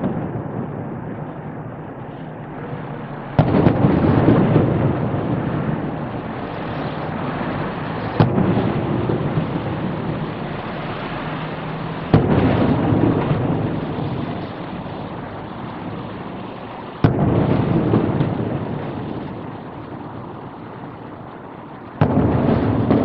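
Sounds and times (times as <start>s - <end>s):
fireworks bursting with echo: 0.0s - 23.0s.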